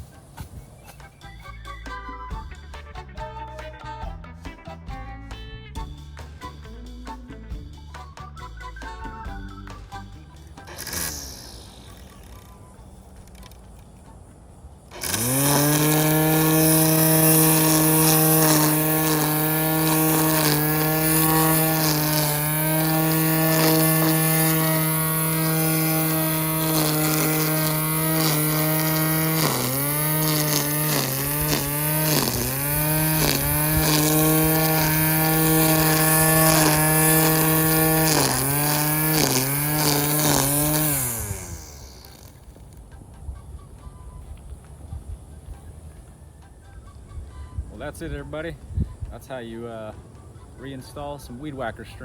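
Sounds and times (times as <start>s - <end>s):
electric string trimmer whining: 0.0s - 52.0s.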